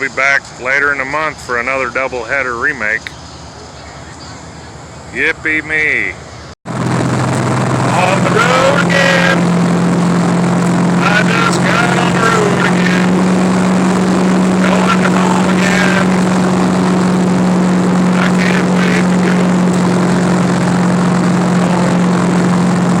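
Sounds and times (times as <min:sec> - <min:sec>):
road noise: 0:00.0 - 0:23.0
vehicle engine droning: 0:00.0 - 0:23.0.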